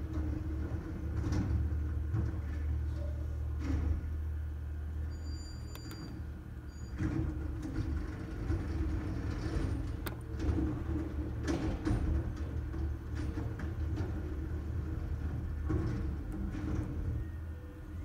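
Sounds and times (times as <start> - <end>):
knocks and clatters of recyclables: 0.0 - 4.3, 6.8 - 17.6
garbage truck engine running: 0.0 - 5.1, 6.2 - 18.0
hydraulic arm lifting cart: 0.0 - 18.0.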